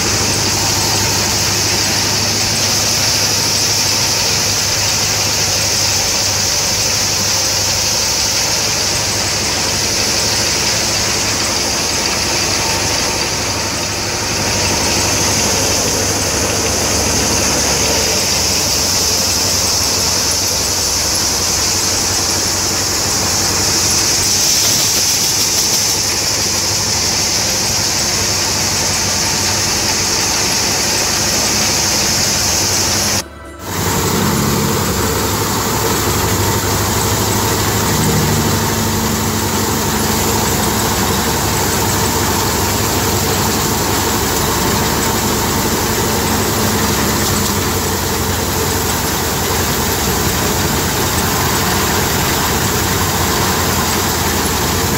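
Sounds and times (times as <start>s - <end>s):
blower hiss: 0.0s - 54.9s
low engine hum: 0.0s - 54.9s
thresher machine whir: 0.0s - 54.9s.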